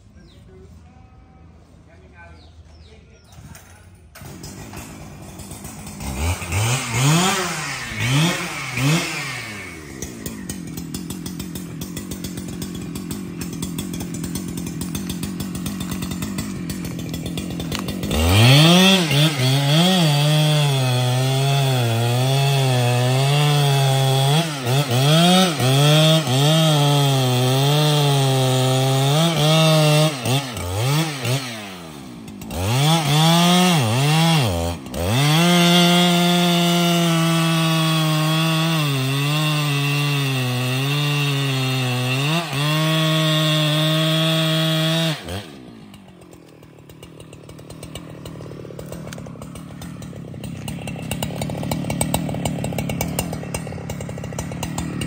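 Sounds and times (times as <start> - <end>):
chainsaw cutting into tree trunk: 4.1 - 55.0.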